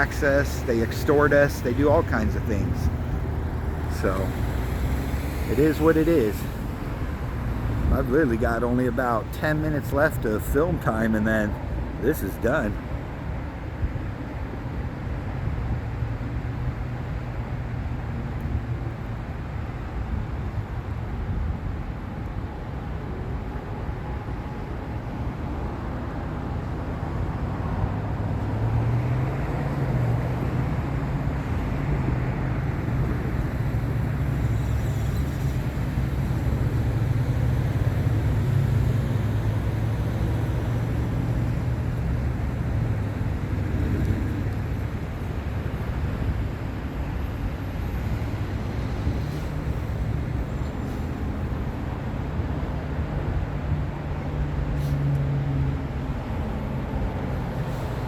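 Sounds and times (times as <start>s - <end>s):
freeway traffic noise: 0.0s - 58.0s.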